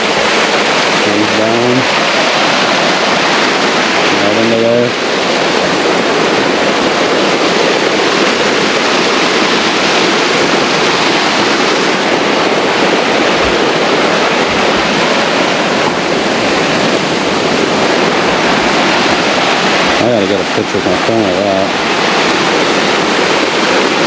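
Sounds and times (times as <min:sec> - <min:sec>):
water rushing down stone channel: 0:00.0 - 0:24.0.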